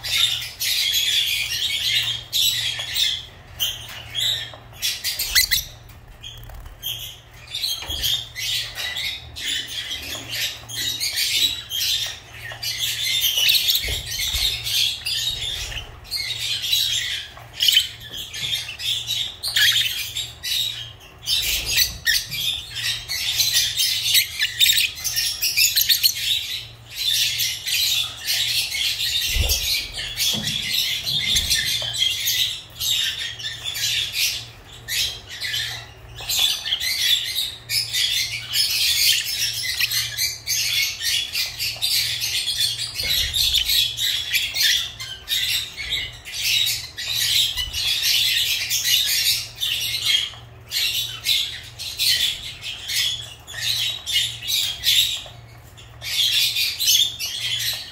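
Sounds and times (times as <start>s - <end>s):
lovebirds chattering: 0.0s - 57.9s.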